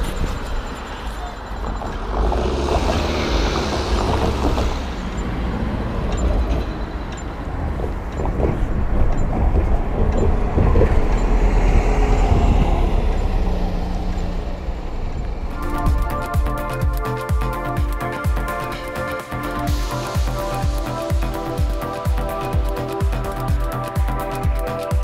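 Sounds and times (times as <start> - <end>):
bus passing: 0.0 - 25.0
street traffic rumble: 0.0 - 25.0.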